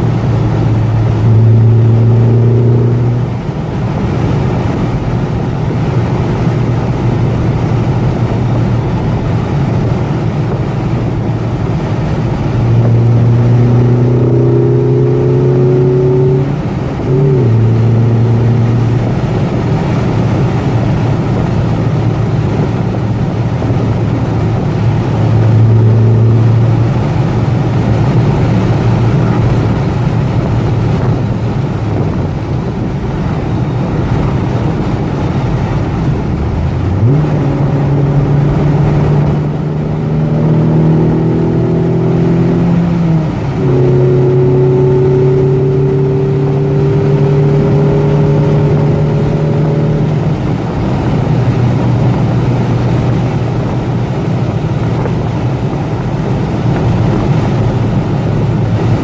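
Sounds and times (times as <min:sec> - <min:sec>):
car engine accelerating: 0:00.0 - 0:59.0
tyre and road noise: 0:00.0 - 0:59.0.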